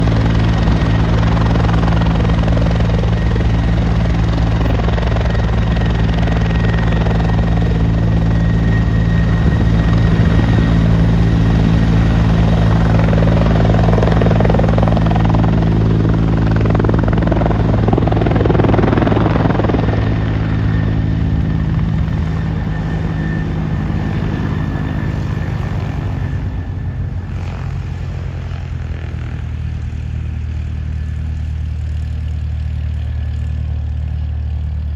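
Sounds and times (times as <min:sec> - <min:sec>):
helicopter rotor beat: 0:00.0 - 0:34.9
high turbine whine: 0:00.0 - 0:34.9.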